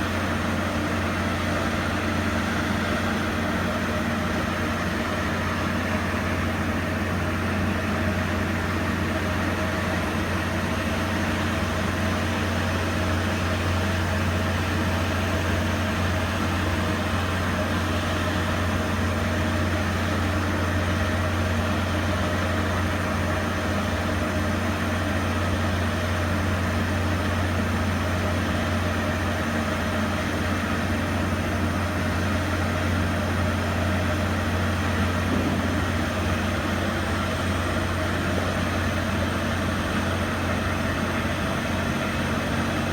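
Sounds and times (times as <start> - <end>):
low engine hum: 0.0 - 42.9.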